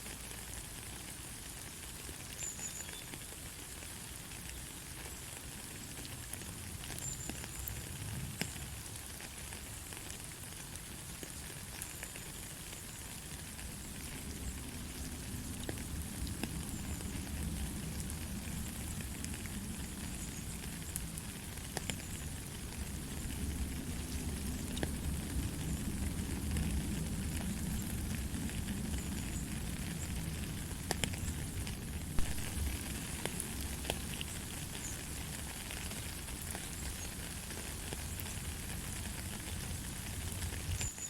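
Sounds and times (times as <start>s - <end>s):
light rain hissing: 0.0s - 41.0s
raindrop ticks: 6.0s - 12.3s, 13.5s - 41.0s.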